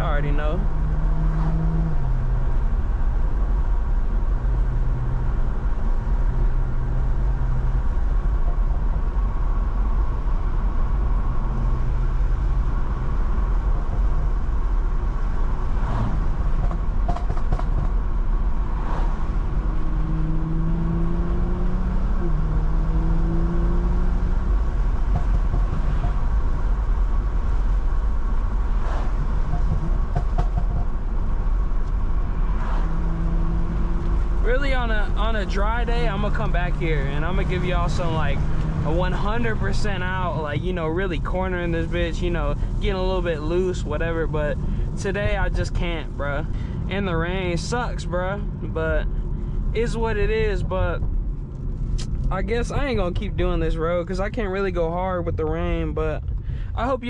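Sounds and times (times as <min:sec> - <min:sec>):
car engine humming: 0:00.0 - 0:57.0
road and tyre noise: 0:00.0 - 0:57.0.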